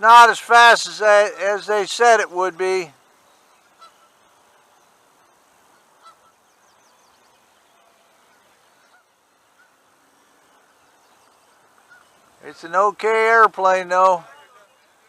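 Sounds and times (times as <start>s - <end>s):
faint distant bird calls: 0.0s - 15.0s.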